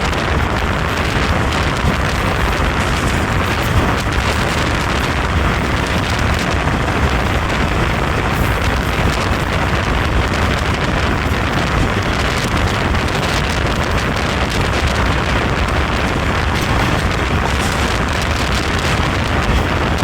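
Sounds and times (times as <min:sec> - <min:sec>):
train rumbling: 0:00.0 - 0:20.0
wind buffeting microphone: 0:00.0 - 0:20.0.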